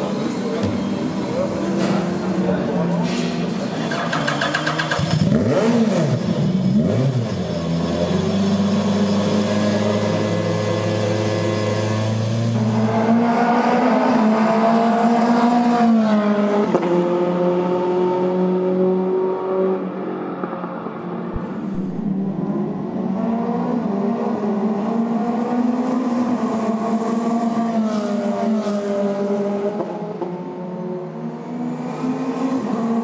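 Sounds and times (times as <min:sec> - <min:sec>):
racing car engine revving: 0:01.6 - 0:33.0.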